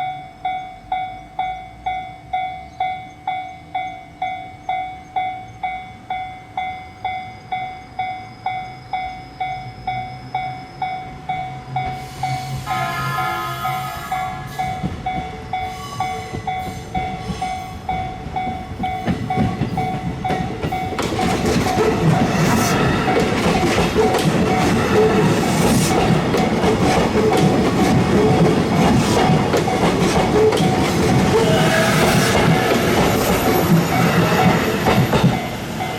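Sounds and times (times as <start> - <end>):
level crossing warning bell: 0.0 - 35.9
train running: 0.0 - 35.9.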